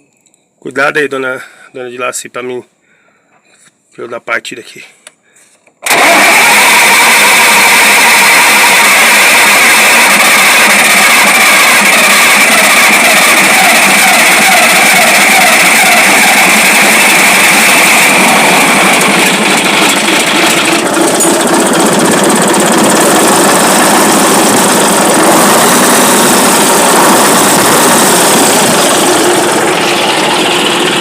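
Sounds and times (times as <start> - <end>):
diesel engine running loudly: 5.8 - 31.0.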